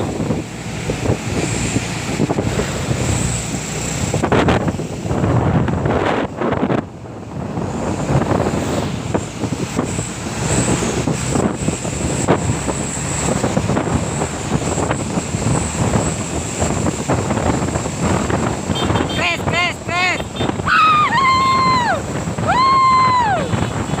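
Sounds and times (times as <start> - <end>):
road vehicle rumble: 0.0 - 24.0
wind buffeting microphone: 0.0 - 24.0.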